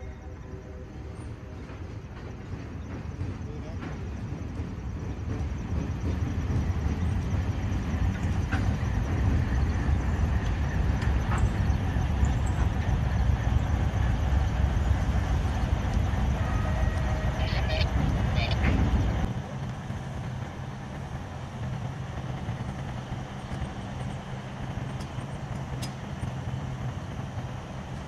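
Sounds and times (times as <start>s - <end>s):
diesel locomotives rumbling: 0.0s - 28.0s.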